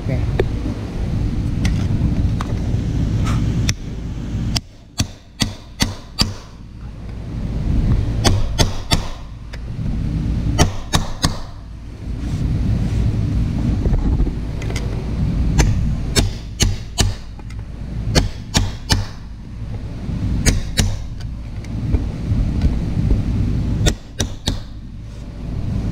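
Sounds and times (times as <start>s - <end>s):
low rumble: 0.0s - 25.9s.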